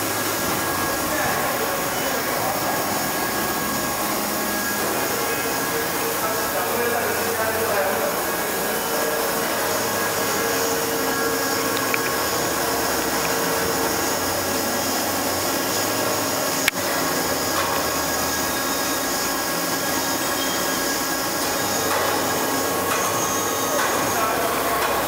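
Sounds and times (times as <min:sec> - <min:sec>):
lathe running with whine: 0:00.0 - 0:25.0.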